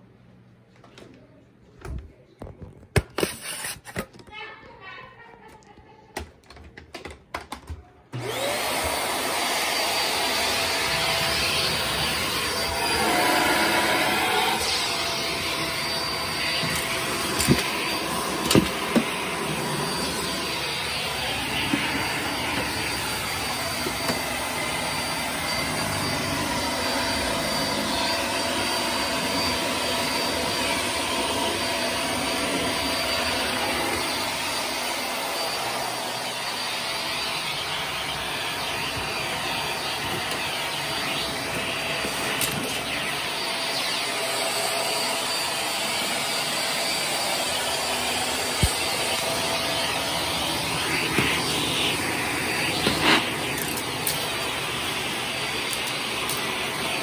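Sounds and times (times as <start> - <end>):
vacuum cleaner running: 8.1 - 57.0.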